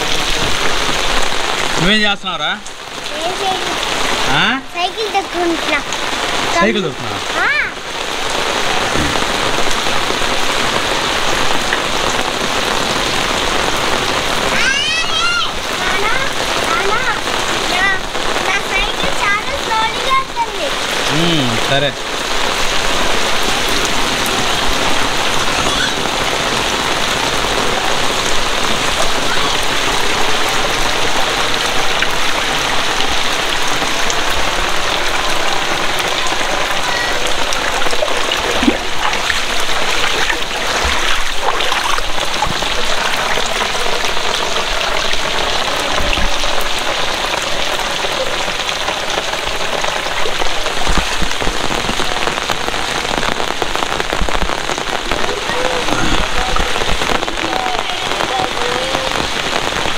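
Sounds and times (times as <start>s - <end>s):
heavy rain on hard surfaces: 0.0s - 59.9s.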